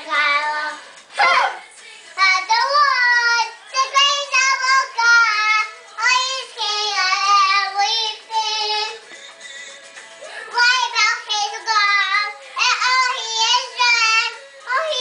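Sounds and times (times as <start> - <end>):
girl singing unaccompanied: 0.0 - 9.3, 10.1 - 15.0.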